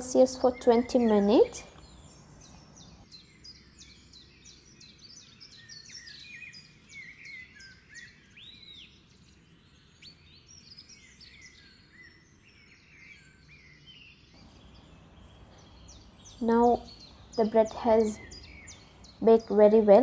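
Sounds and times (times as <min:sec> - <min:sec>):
low background hiss: 0:00.0 - 0:12.8, 0:13.4 - 0:20.0
faint birds chirping: 0:00.0 - 0:20.0.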